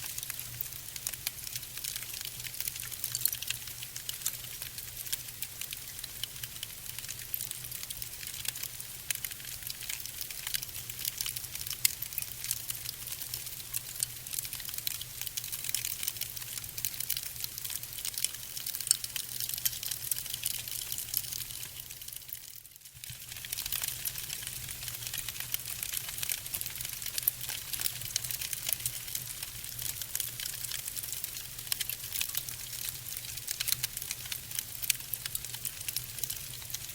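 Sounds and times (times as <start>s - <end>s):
fire crackling: 0.1s - 22.4s, 23.0s - 36.9s.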